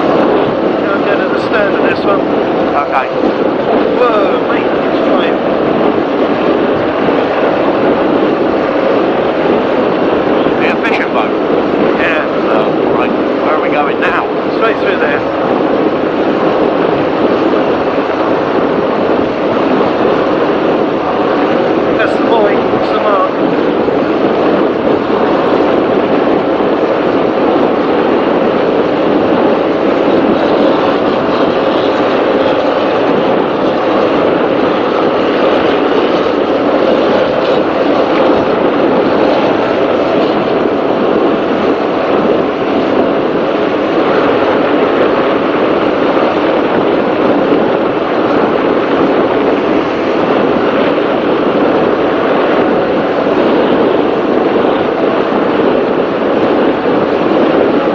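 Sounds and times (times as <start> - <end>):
boat engine drone: 0.0 - 57.9
rushing wind and water: 0.0 - 57.9.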